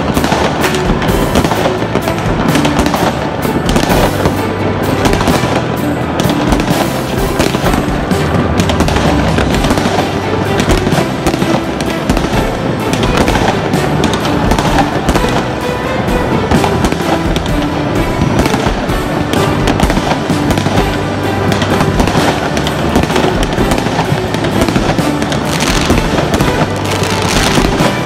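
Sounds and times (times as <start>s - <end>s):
background music: 0.0s - 28.0s
fireworks bangs and crackles: 0.0s - 28.0s.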